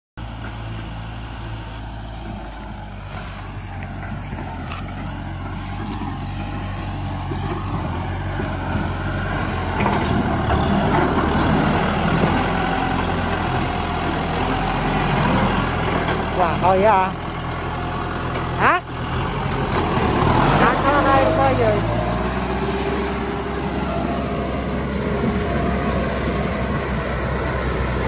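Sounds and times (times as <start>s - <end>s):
tractor diesel engine running: 0.2s - 28.0s.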